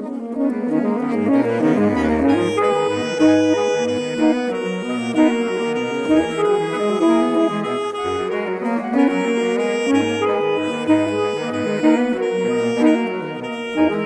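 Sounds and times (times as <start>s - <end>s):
saxophone quartet playing: 0.0s - 14.0s.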